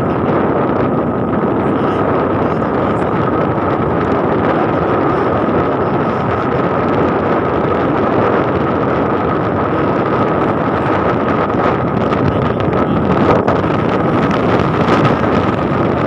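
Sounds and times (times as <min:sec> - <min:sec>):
motorcycle engine running: 0:00.0 - 0:16.0
thin steady whine: 0:00.0 - 0:16.0
wind rushing over microphone: 0:00.0 - 0:16.0.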